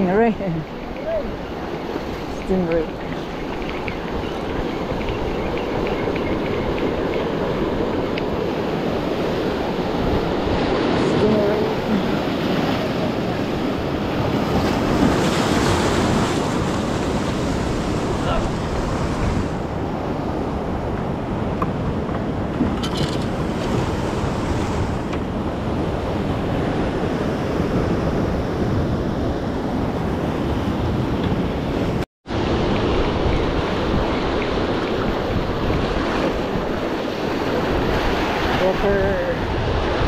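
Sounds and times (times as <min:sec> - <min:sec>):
surf washing over rocks: 0:00.0 - 0:30.5, 0:31.7 - 0:40.0
wind buffeting microphone: 0:00.0 - 0:40.0.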